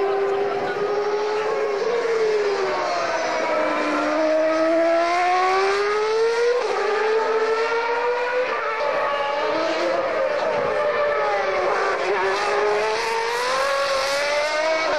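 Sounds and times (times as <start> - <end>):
racing car engine at full throttle: 0.0 - 14.9.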